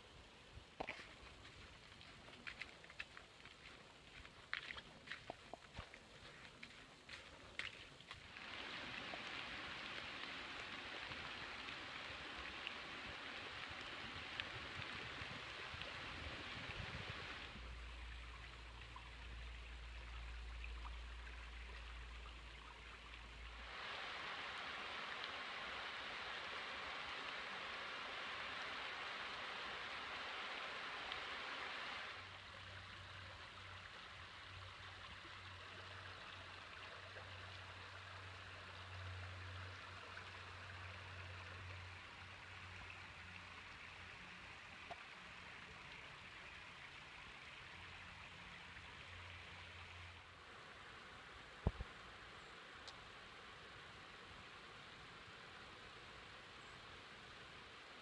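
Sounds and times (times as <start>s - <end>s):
water running over rocks: 0.0s - 58.0s.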